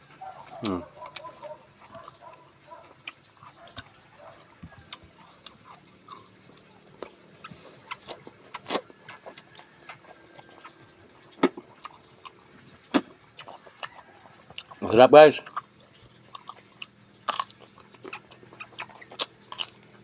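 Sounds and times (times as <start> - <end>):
person chewing food: 0.0 - 14.8, 15.4 - 20.0.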